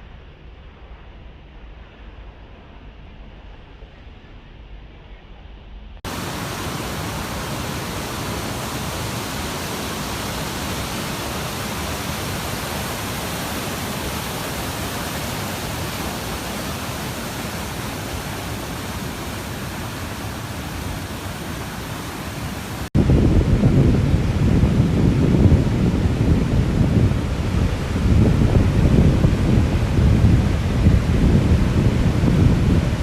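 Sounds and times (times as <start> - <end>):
steady rushing noise: 6.0 - 33.0.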